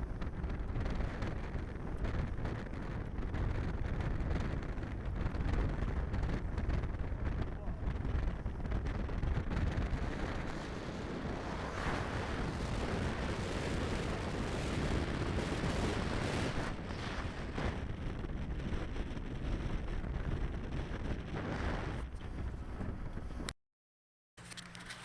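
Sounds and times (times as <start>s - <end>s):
wind buffeting microphone: 0.0s - 23.5s.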